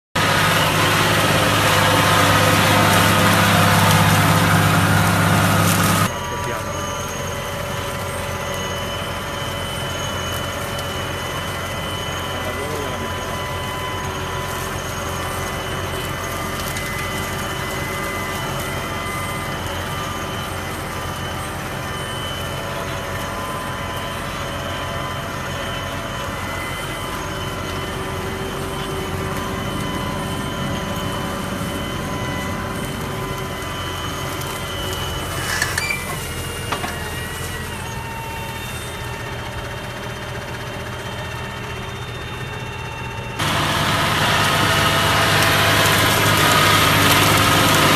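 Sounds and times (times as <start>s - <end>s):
farm machine engine whining: 0.2s - 47.9s.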